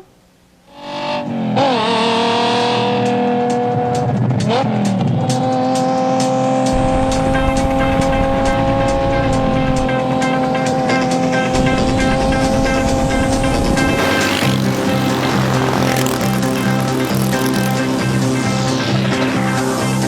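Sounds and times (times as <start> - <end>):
engine revving: 0.7 - 20.0
music with ticking beat and bass: 3.0 - 20.0.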